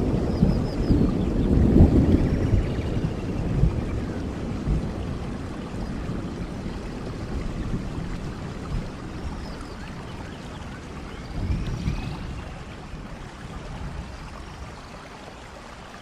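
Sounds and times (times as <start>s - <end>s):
falling rain: 0.0s - 16.0s.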